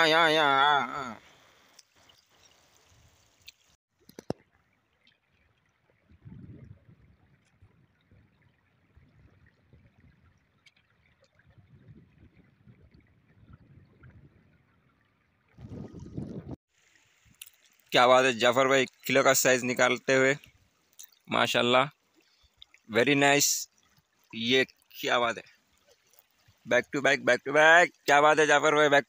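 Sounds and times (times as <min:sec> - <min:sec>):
shallow water splashing: 0:00.0 - 0:28.2.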